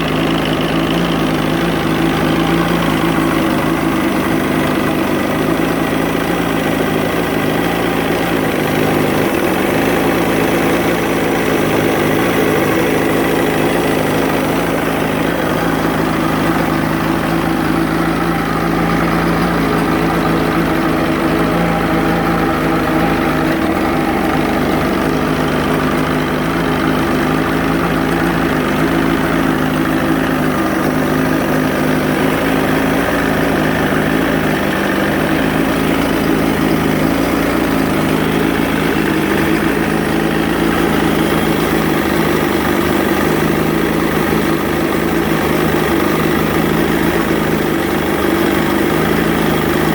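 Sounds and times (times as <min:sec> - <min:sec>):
outboard motor idling: 0:00.0 - 0:49.9.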